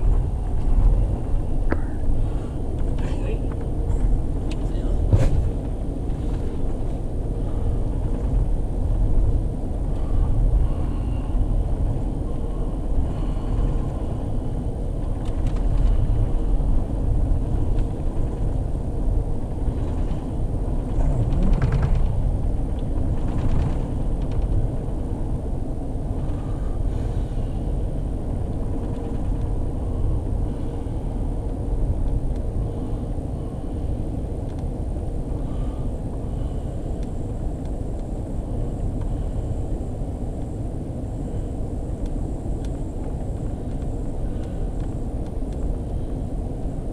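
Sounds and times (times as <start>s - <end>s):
train car rumbling on rails: 0.0s - 46.9s.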